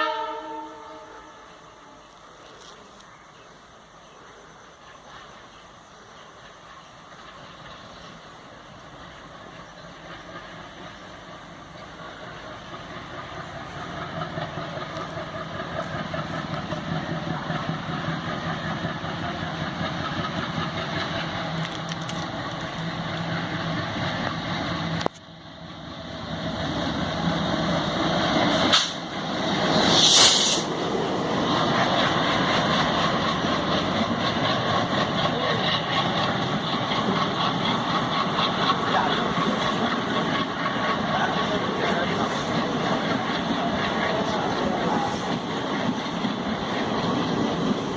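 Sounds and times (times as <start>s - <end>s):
locomotive engine hum: 0.0s - 47.9s
rumble of train passing: 0.0s - 47.9s.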